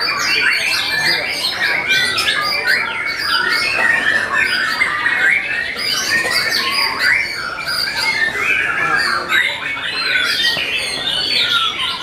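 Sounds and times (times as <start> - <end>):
songbirds whistling and warbling: 0.0 - 12.0.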